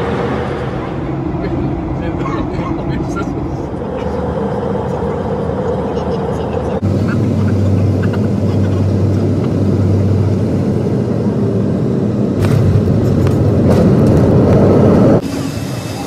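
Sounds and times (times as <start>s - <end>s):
rolling rumble: 0.0s - 15.2s
jet engine in cabin: 0.0s - 16.0s
low hum: 0.0s - 16.0s.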